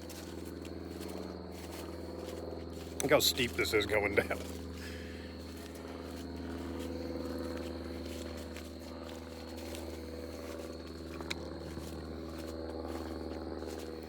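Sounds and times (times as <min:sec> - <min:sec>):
propeller airplane droning: 0:00.0 - 0:14.0.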